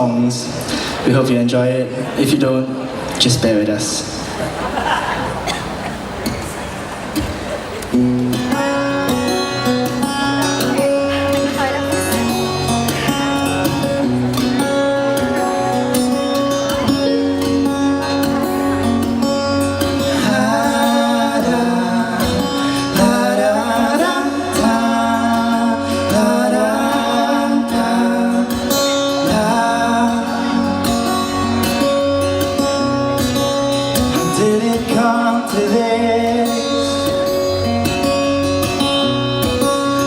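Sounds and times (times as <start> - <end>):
acoustic guitar: 0.0 - 40.0.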